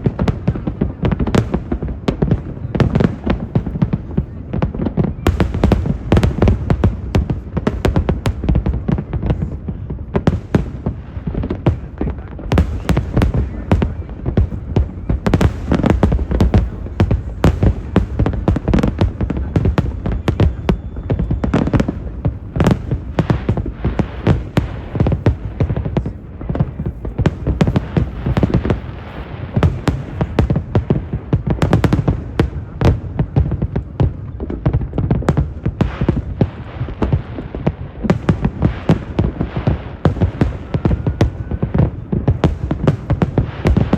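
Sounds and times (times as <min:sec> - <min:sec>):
fireworks booming and cracking: 0:00.0 - 0:43.9.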